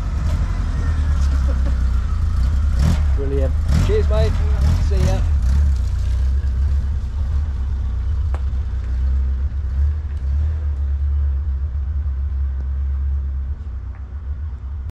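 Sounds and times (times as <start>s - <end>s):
car engine pulling away: 0.0s - 14.8s.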